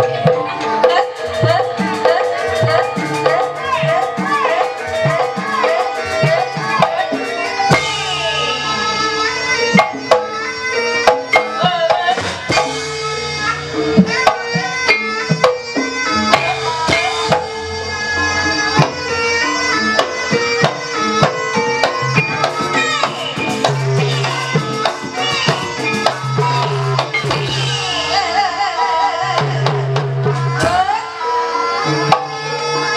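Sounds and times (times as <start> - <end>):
hand drum strokes: 0.0 - 32.9.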